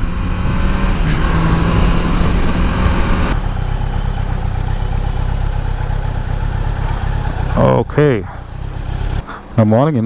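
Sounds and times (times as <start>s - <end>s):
motorcycle engine at low revs: 0.0s - 9.6s.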